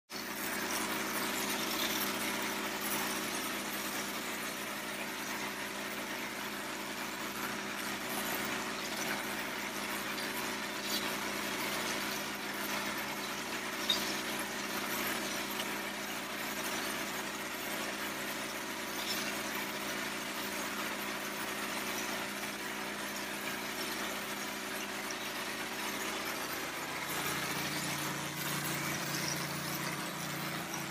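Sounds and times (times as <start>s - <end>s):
spray rig machine hum: 0.2s - 30.9s.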